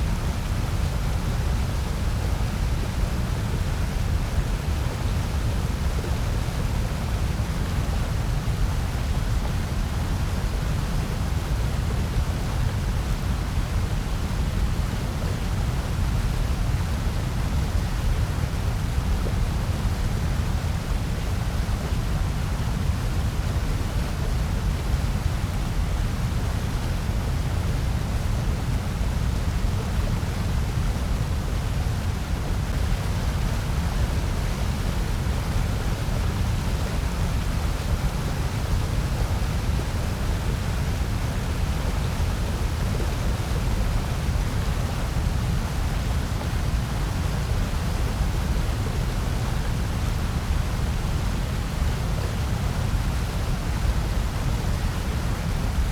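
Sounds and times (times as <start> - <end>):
steady hiss and rumble noise: 0.0 - 55.9.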